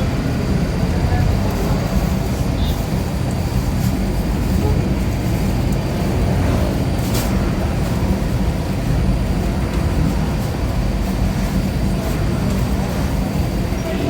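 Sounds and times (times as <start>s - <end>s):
motor vehicle rumbling: 0.0s - 14.0s.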